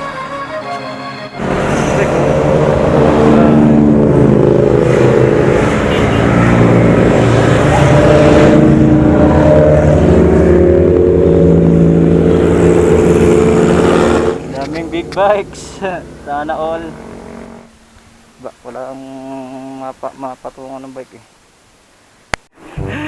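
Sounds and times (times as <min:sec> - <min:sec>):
motorcycles revving: 0:01.3 - 0:20.0.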